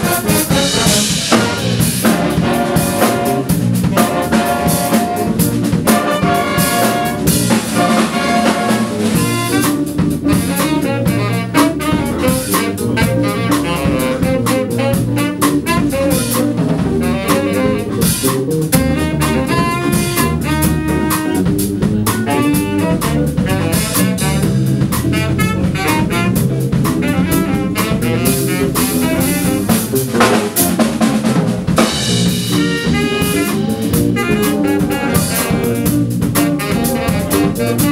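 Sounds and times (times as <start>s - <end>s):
drum kit steady beat: 0.0s - 37.9s
saxophones and brass: 0.0s - 37.9s.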